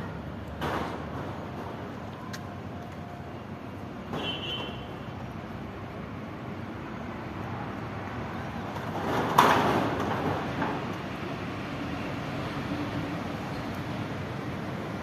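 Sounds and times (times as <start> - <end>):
background traffic: 0.0 - 15.0.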